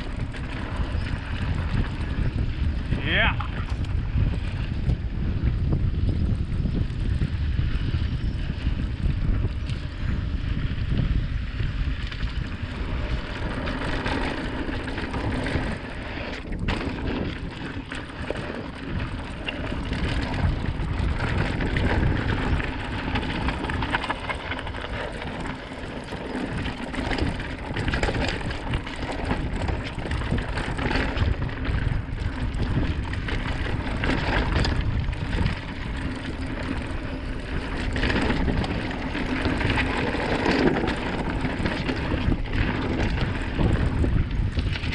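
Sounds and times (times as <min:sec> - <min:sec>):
bike tyre and rattle noise: 0:00.0 - 0:44.9
wind buffeting microphone: 0:00.0 - 0:44.9.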